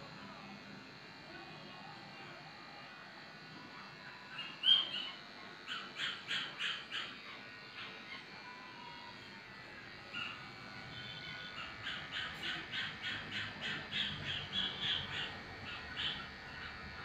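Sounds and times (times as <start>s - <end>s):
electric dog clippers humming: 0.0s - 17.0s.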